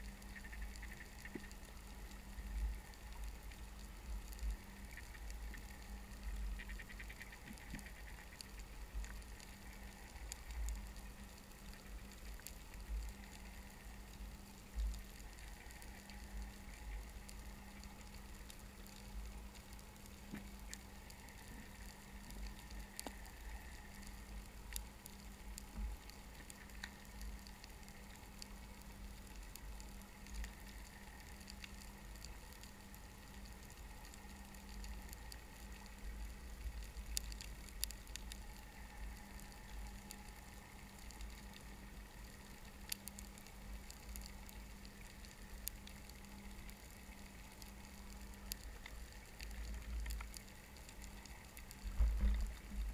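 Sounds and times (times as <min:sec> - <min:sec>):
faint hum: 0:00.0 - 0:52.9
sharp clicks and crackling: 0:00.0 - 0:52.9
underwater low rumble: 0:00.0 - 0:52.9.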